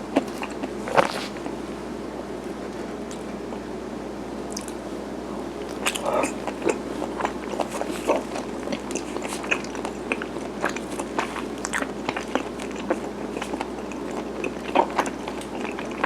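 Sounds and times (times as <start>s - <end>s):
person chewing with wet smacks: 0.0s - 1.6s, 2.7s - 3.6s, 4.5s - 4.8s, 5.6s - 16.0s
steady background hum: 0.0s - 16.0s.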